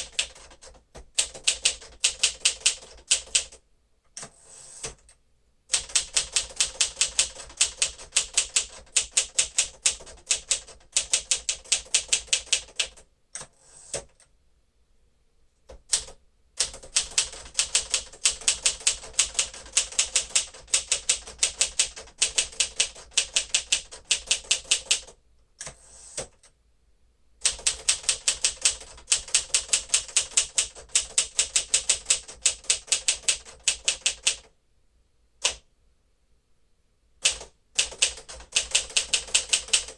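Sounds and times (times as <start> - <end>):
manual typewriter typing: 0.0 - 3.6, 5.7 - 14.2, 15.9 - 26.5, 27.4 - 34.5, 37.2 - 39.9.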